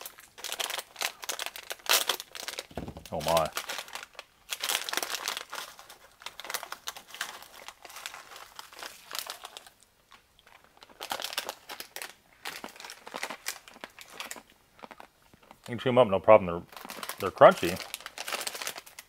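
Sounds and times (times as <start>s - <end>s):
plastic bag crinkling: 0.0s - 15.8s, 16.7s - 19.0s.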